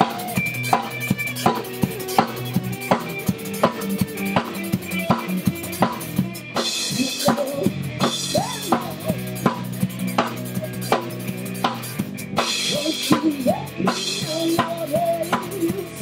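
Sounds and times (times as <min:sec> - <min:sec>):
bass guitar: 0:00.0 - 0:16.0
drum kit beat: 0:00.0 - 0:16.0
electric guitars: 0:00.0 - 0:16.0
rock band playing: 0:00.0 - 0:16.0.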